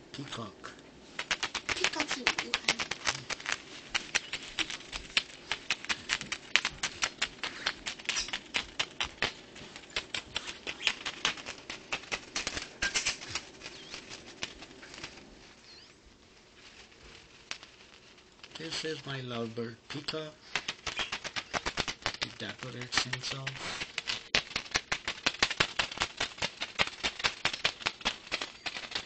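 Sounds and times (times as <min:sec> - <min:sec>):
bird beak clicks and feather rustles: 0:00.4 - 0:29.0.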